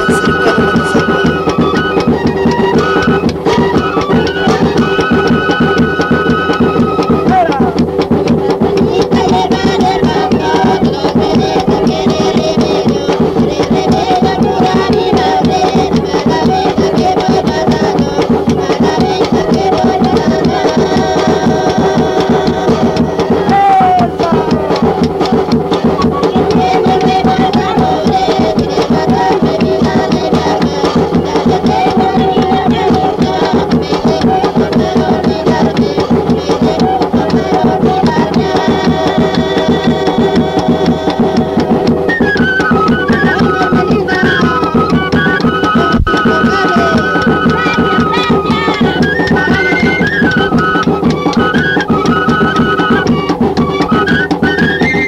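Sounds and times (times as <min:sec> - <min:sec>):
drums and percussion beat: 0:00.0 - 0:55.0
folk song played by band: 0:00.0 - 0:55.0.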